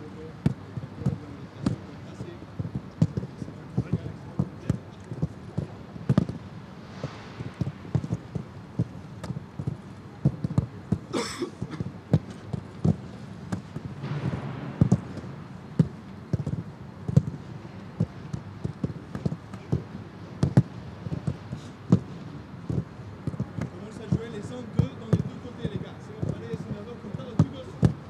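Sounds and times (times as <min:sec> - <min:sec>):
footballs being kicked: 0:00.0 - 0:28.0.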